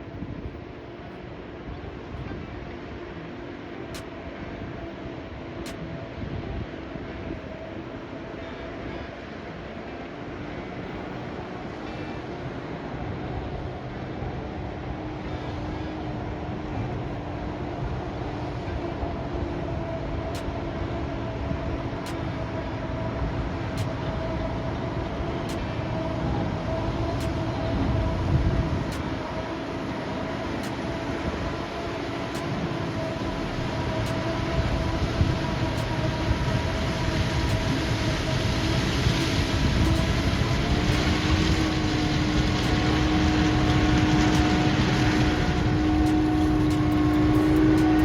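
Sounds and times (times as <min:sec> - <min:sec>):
heavy machinery rumbling: 0:00.0 - 0:48.0.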